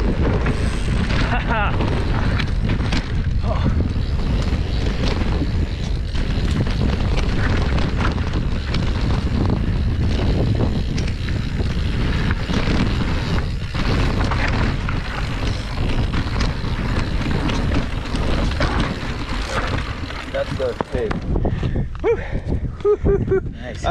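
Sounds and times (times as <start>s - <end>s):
gravel clicks and knocks: 0.0s - 22.0s
bike tyres rolling on dirt trail: 0.0s - 23.0s
wind buffeting microphone: 0.0s - 23.9s.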